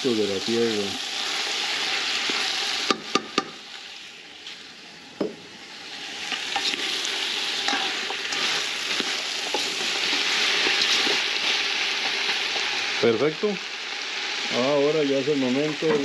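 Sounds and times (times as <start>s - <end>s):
vegetables sizzling in a pot: 0.0s - 16.0s.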